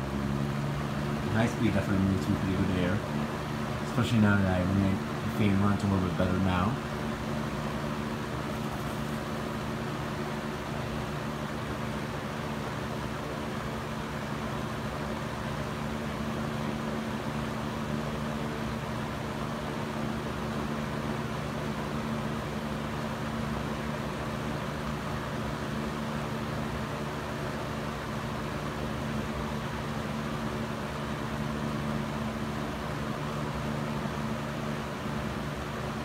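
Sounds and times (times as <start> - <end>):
box fan running: 0.0 - 36.0.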